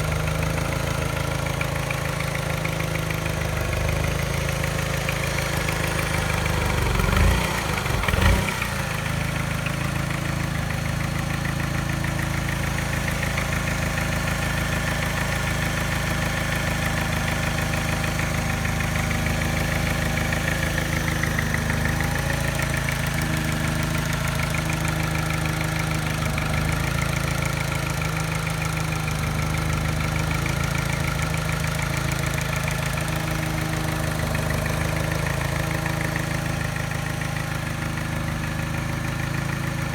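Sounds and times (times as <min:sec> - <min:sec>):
car engine idling with tap: 0:00.0 - 0:39.9.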